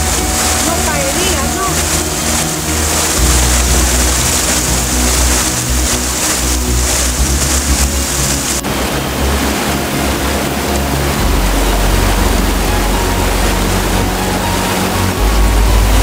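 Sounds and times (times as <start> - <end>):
heavy low rumble: 0.0 - 16.0
stream water rushing over rocks: 0.0 - 16.0.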